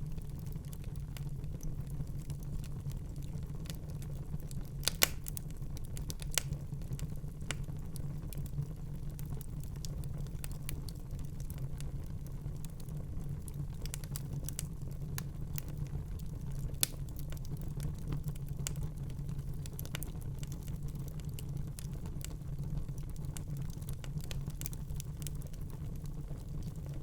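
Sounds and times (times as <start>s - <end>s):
low rumble of flames: 0.0s - 27.0s
wood fire crackling: 0.0s - 27.0s.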